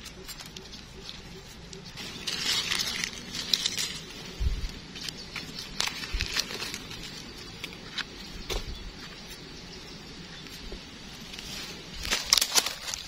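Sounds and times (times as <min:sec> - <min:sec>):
dry leaves crackling: 0:00.0 - 0:13.0.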